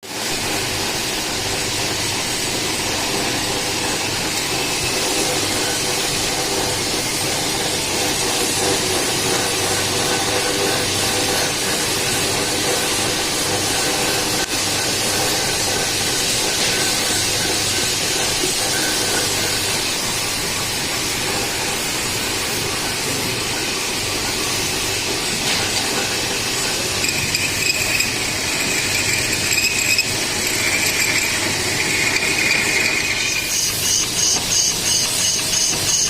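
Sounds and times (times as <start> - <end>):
industrial machinery hissing rumble: 0.2 - 34.5.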